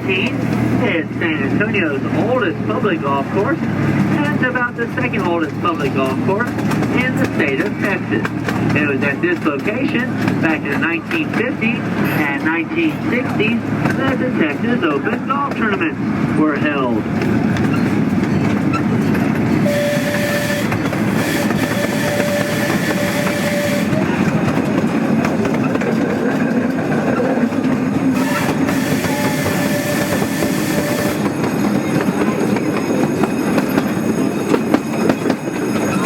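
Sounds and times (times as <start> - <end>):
train rolling rumble and clatter: 0.0 - 36.0.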